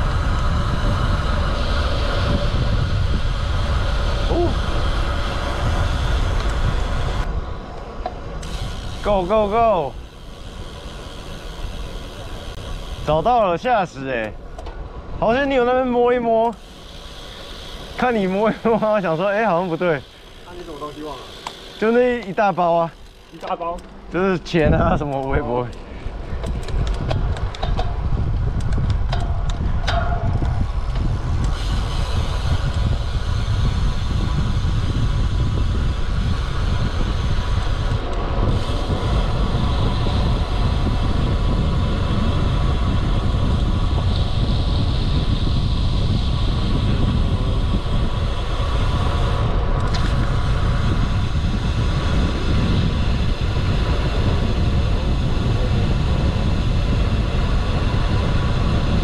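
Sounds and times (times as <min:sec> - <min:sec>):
wind rumble on microphone: 0:00.0 - 0:21.2, 0:21.9 - 0:59.0
bicycle road noise: 0:00.0 - 0:59.0.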